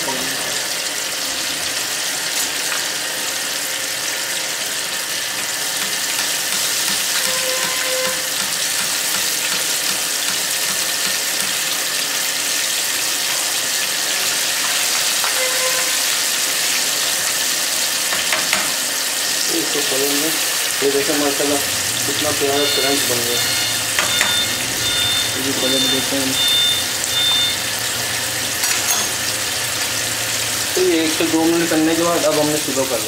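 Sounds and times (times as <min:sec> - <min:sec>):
chicken deep-frying in oil: 0:00.0 - 0:33.0.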